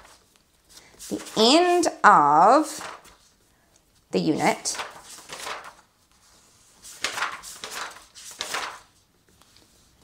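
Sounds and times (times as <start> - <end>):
book pages turning: 0.0 - 1.8, 2.6 - 3.8, 4.4 - 10.0.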